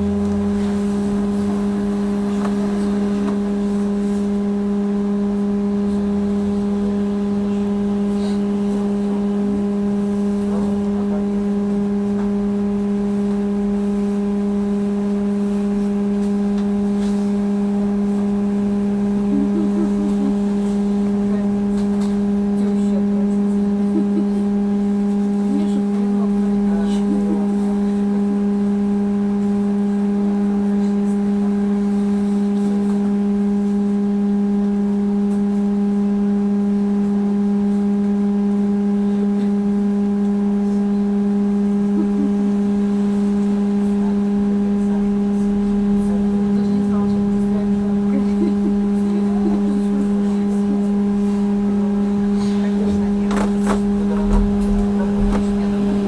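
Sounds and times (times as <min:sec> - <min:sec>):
trolleybus electrical hum: 0:00.0 - 0:56.0.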